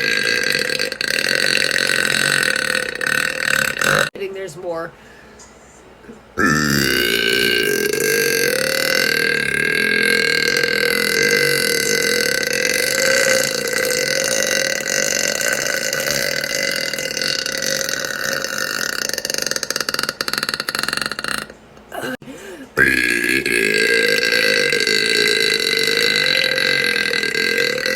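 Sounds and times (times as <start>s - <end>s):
woman belching: 0.0s - 4.2s, 6.4s - 22.2s, 22.8s - 27.9s.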